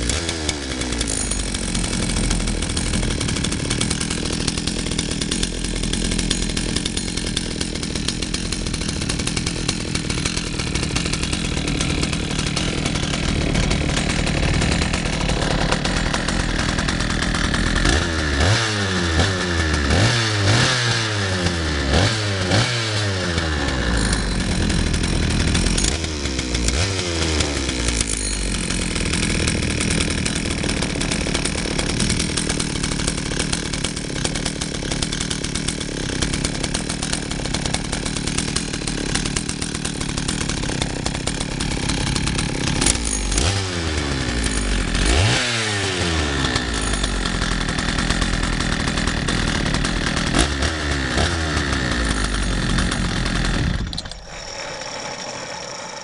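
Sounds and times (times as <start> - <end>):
chainsaw engine revving: 0.0 - 56.0
chainsaw idling: 0.0 - 56.0.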